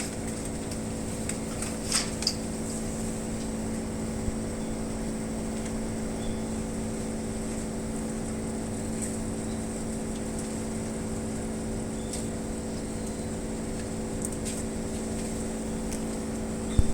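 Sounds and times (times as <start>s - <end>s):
air conditioner unit humming: 0.0s - 16.9s
faint high whine: 1.1s - 16.9s.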